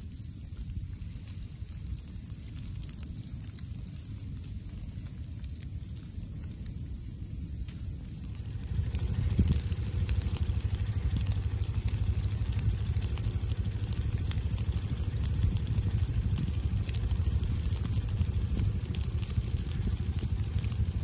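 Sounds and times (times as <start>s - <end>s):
fire crackling in dry leaves: 0.0s - 21.0s.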